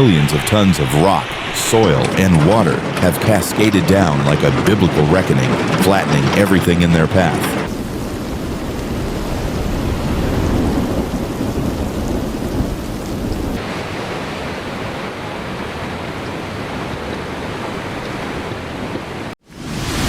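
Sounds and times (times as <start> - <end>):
rumbling thunder: 0.0 - 17.7
heavy rain: 0.0 - 20.0.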